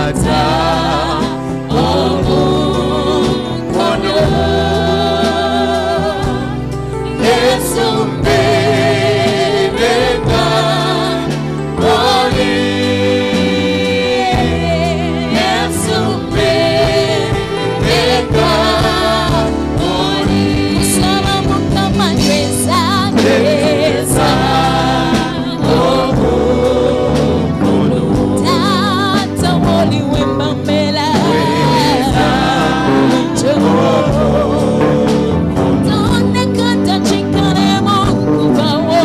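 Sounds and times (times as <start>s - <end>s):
backing singers: 0.0s - 37.9s
electric keyboard chords: 0.0s - 39.0s
woman singing lead with vibrato: 0.0s - 39.0s.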